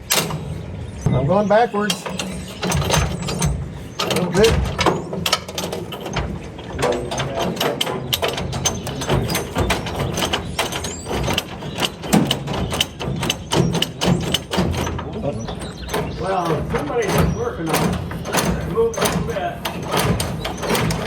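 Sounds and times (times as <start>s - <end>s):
metallic clicking and clanking: 0.0s - 21.0s.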